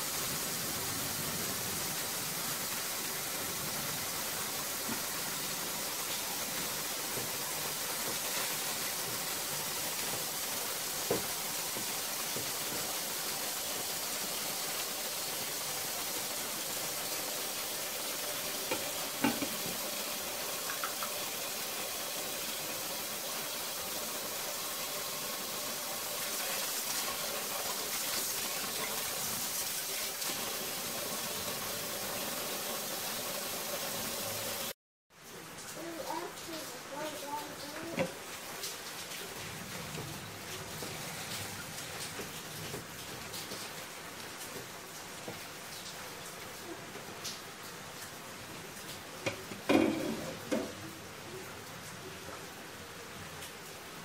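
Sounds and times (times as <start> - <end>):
prawns sizzling in a pan: 0.0 - 51.8.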